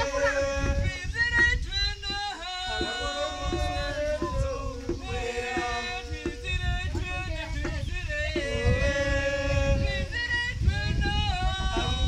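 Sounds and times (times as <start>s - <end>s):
percussion beat: 0.0s - 12.0s.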